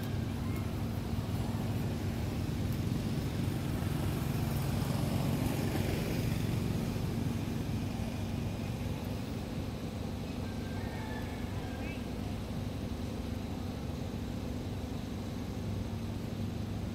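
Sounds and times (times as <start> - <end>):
vehicle engine humming: 0.0 - 16.9.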